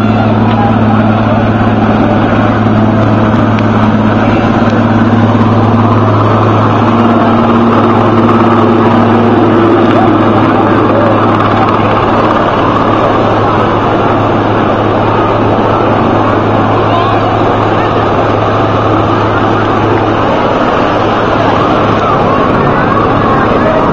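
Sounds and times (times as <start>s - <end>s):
helicopter rotor and turbine: 0.0s - 23.9s.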